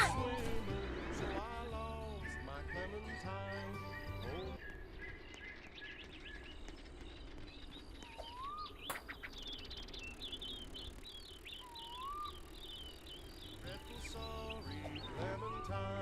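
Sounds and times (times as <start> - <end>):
small birds chirping: 0.0 - 16.0
whistled bird calls: 0.0 - 16.0.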